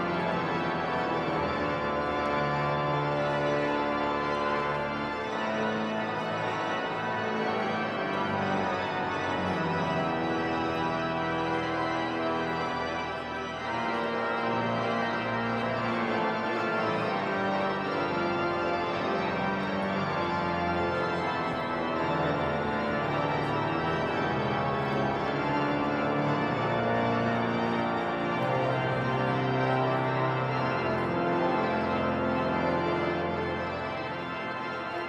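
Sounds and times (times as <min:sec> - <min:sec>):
pipe organ playing chords: 0:00.0 - 0:35.0.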